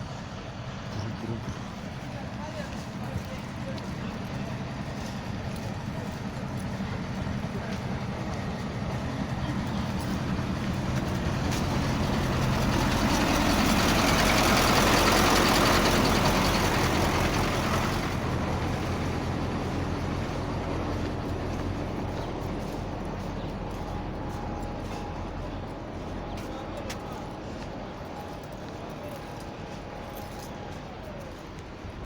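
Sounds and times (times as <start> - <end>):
heavy vehicle engine passing: 0.0 - 31.9.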